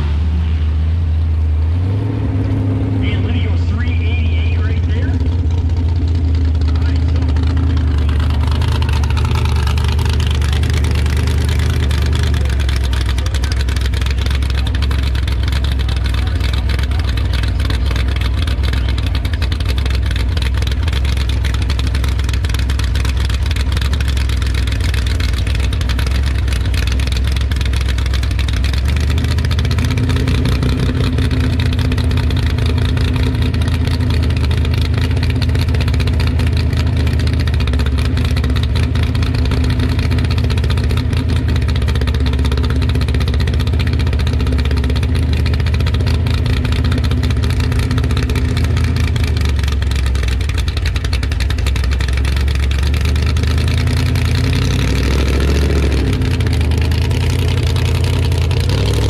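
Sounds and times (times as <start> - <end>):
race car engine idling: 0.0 - 59.0.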